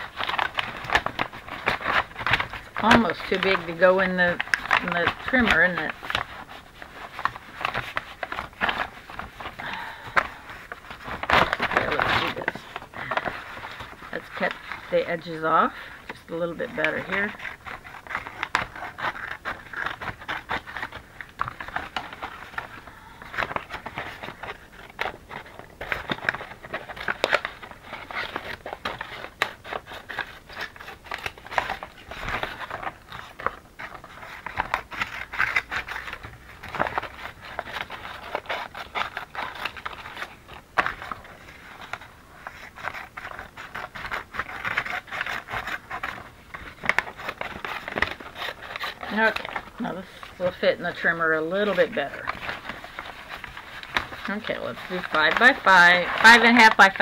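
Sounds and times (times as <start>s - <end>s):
paper bag crinkling: 0.0s - 57.0s.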